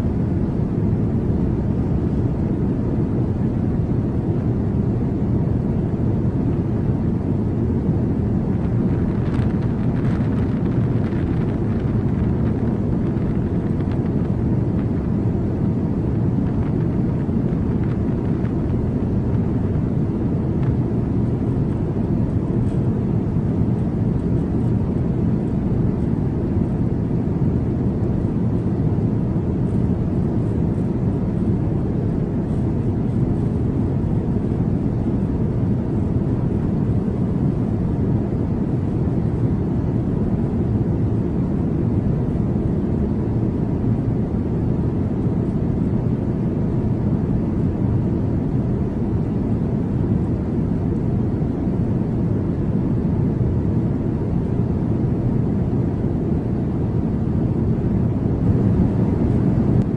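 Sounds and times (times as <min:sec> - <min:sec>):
jet aircraft rumble: 0:00.0 - 0:59.9.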